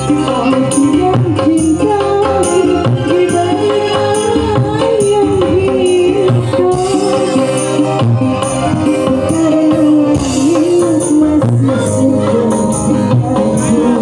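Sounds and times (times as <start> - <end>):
woman singing: 0.0 - 8.0, 8.8 - 14.0
electric guitar: 0.0 - 14.0
electronic keyboard: 0.0 - 14.0.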